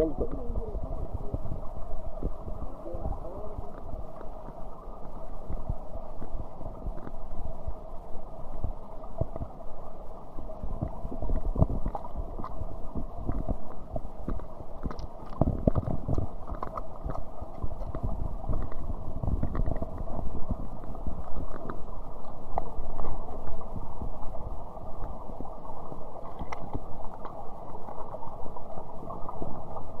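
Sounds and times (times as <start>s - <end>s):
muffled rushing water: 0.0s - 30.0s.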